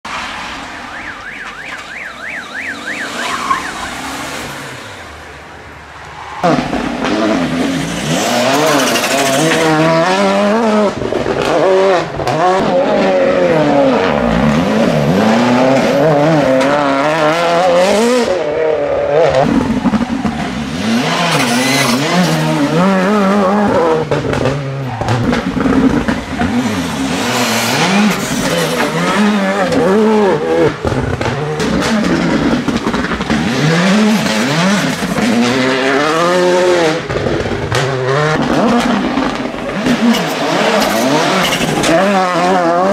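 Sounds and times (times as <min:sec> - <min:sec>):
rally cars braking and accelerating: 0:00.0 - 0:42.9
turbocharged engines revving: 0:00.2 - 0:42.9.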